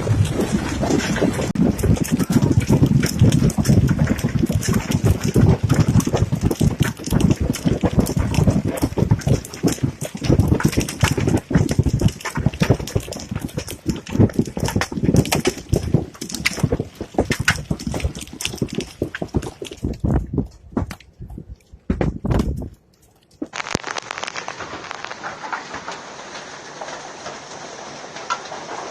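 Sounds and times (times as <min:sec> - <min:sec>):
hailstones clattering: 0:00.0 - 0:21.4, 0:23.5 - 0:28.9.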